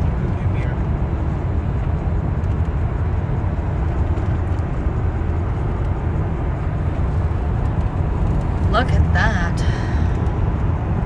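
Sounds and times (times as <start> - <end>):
road noise inside car: 0.0 - 11.0.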